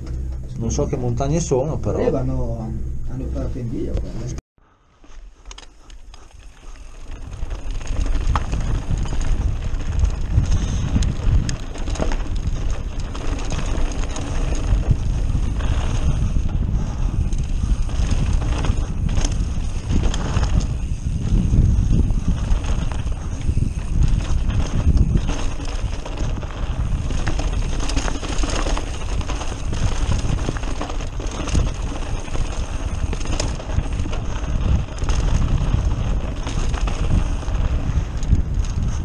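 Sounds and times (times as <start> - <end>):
bike rattling and clicking: 0.0 - 1.2, 5.0 - 39.0
tyres on loose gravel: 5.1 - 39.0
wind buffeting microphone: 5.8 - 39.0.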